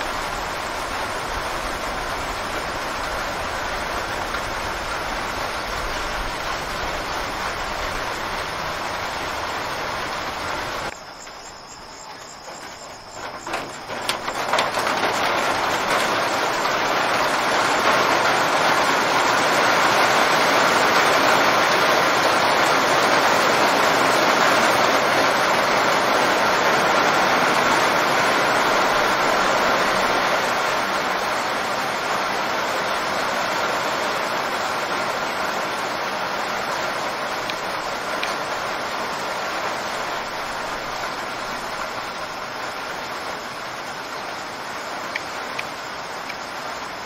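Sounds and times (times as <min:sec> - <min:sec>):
heavy rain hiss: 0:00.0 - 0:47.0.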